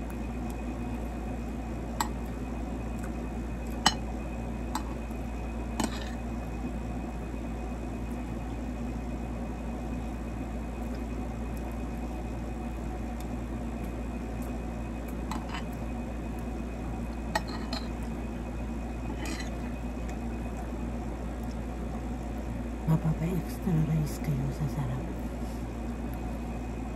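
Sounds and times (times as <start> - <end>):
low background hum: 0.0 - 26.9.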